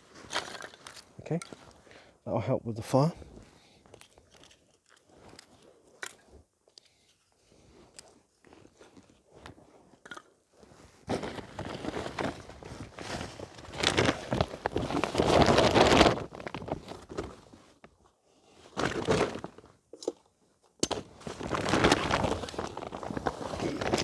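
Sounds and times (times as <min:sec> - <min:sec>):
rustling and crinkling materials: 0:00.0 - 0:01.9, 0:02.8 - 0:24.0.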